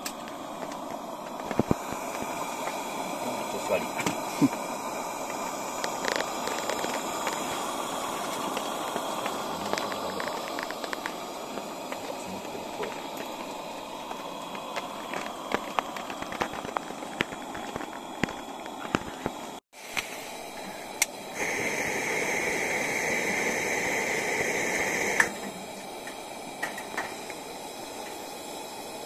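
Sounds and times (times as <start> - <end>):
valve click: 0.0 - 3.2, 3.9 - 29.0
camp stove burner hissing: 0.0 - 29.0.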